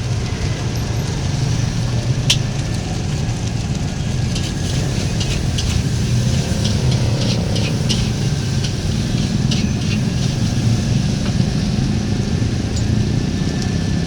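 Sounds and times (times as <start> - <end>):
steady low roar: 0.0 - 14.0.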